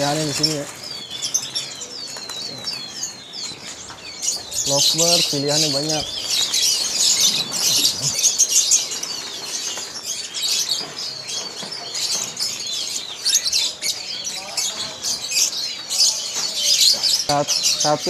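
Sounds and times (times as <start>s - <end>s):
lovebirds chirping: 0.0s - 18.0s.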